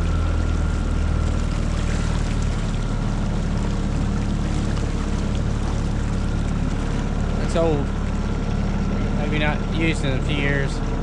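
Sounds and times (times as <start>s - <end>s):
outboard motor running: 0.0s - 11.0s
water around hull: 0.0s - 11.0s.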